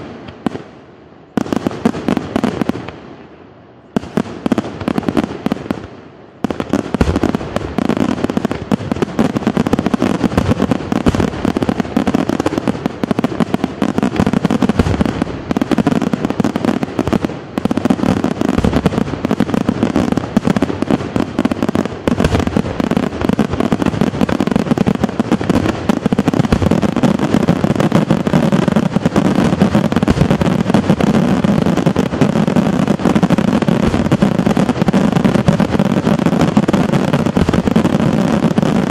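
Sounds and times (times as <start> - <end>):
fireworks banging and crackling: 0.0 - 38.9.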